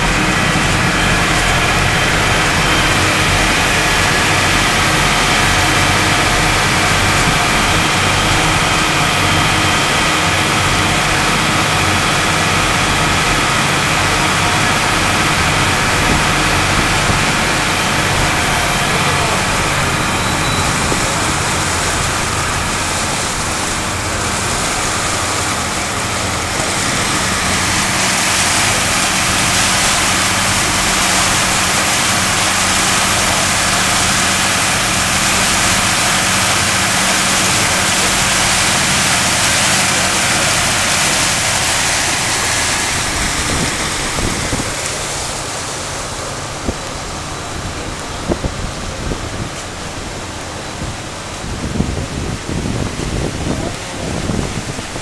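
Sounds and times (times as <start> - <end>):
boat diesel engine drone: 0.0 - 55.0
propeller wake rushing: 0.0 - 55.0.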